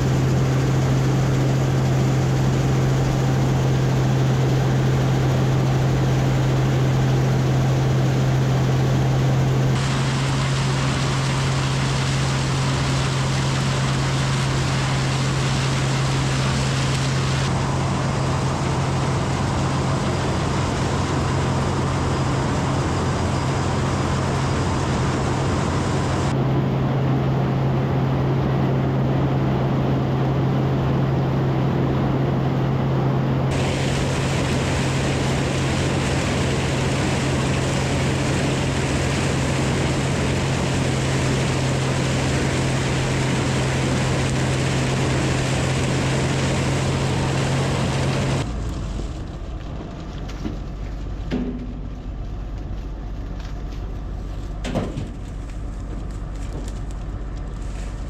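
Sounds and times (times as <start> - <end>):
farm machinery engine humming: 0.0 - 58.0.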